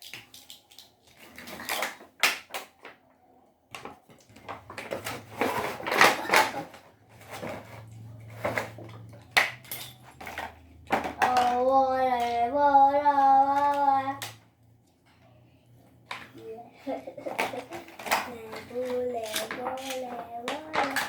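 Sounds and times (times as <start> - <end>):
plastic parts clattering: 0.0 - 3.1, 3.7 - 14.5, 16.0 - 21.0.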